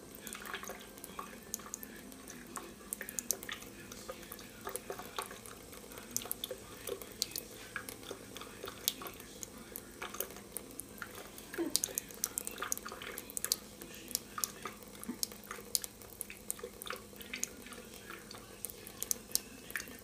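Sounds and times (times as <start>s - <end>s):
sharp drip-like ticks and splashes: 0.0s - 20.0s
water trickling into metal sink: 0.0s - 20.0s.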